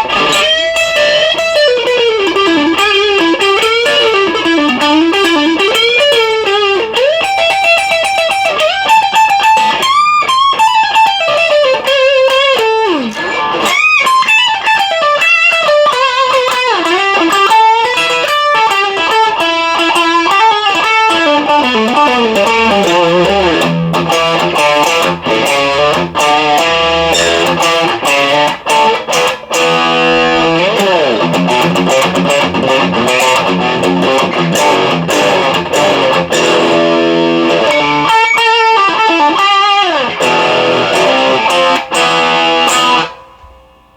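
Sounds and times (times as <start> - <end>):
electric guitar lead playing: 0.0 - 43.9.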